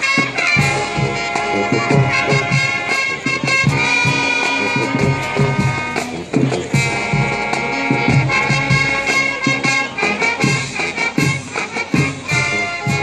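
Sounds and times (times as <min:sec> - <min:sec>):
brass chords: 0:00.0 - 0:13.0
drum strikes: 0:00.2 - 0:13.0.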